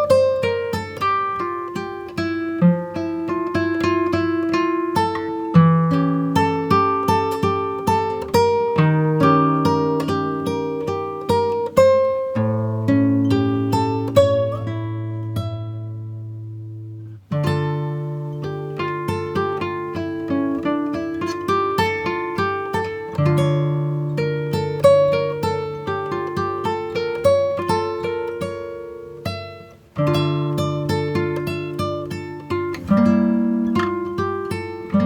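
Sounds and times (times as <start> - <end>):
plucked acoustic guitar: 0.0 - 35.0.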